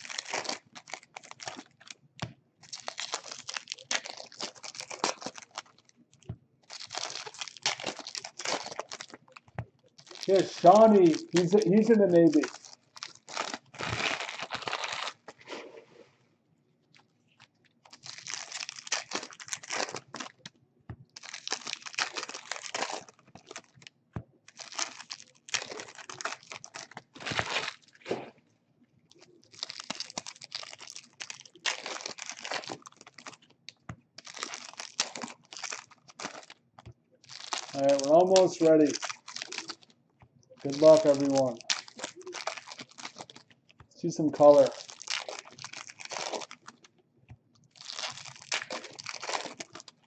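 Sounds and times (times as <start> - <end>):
plastic wrapping crinkling and tearing: 0.0 - 15.7, 16.8 - 28.4, 29.1 - 50.0.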